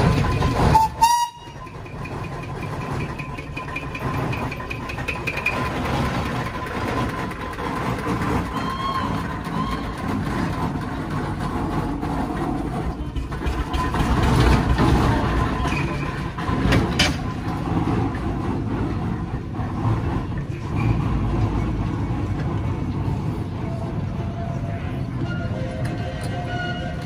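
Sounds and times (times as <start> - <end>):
steam traction engine running: 0.0 - 27.0
wagons rolling with low rumble: 0.0 - 27.0.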